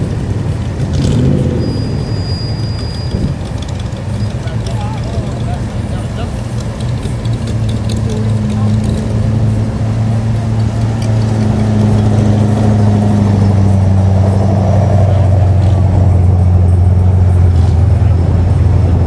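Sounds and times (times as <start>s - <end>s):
car engine idling: 0.0s - 19.0s
slow-moving traffic: 0.0s - 19.0s.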